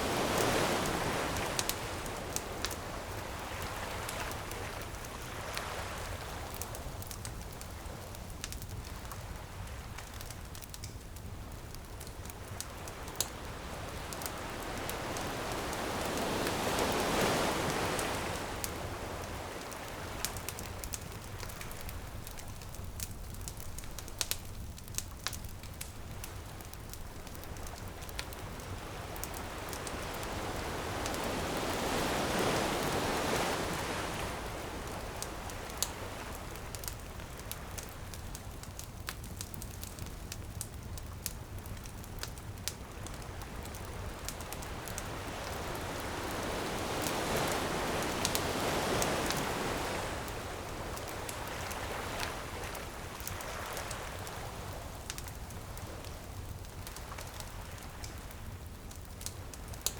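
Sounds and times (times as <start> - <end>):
ocean waves washing ashore: 0.0 - 10.3, 11.6 - 24.4, 25.7 - 38.5, 42.7 - 58.5
bonfire crackling and popping: 0.0 - 59.9.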